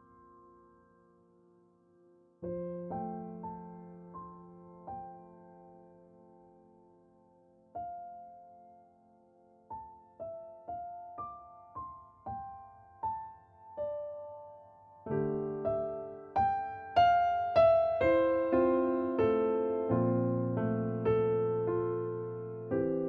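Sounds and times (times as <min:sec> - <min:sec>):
piano chords: 0:00.0 - 0:23.0
slow piano melody: 0:00.0 - 0:23.0.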